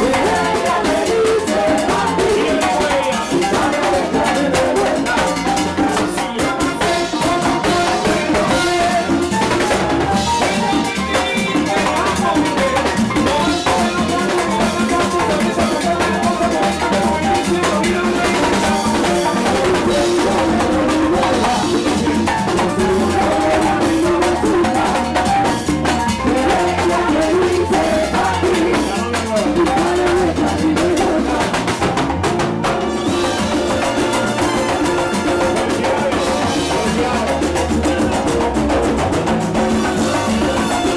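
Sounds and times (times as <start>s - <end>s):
congas: 0.0s - 40.9s
drum kit: 0.0s - 40.9s
frame drums: 0.0s - 40.9s
keyboard: 0.0s - 40.9s
trombone: 0.0s - 40.9s.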